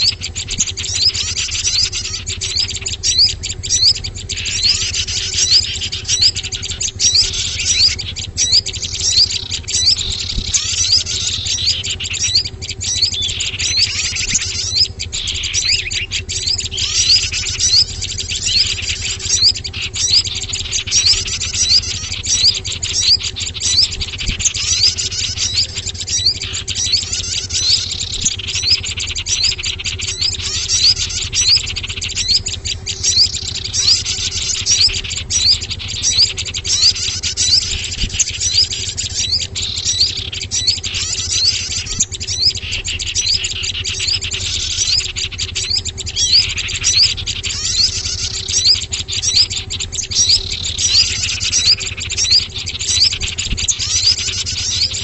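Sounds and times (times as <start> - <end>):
bird call sweeping downward: 0.0 - 55.0
songbirds chirping: 0.0 - 55.0
steady low hum: 0.0 - 55.0.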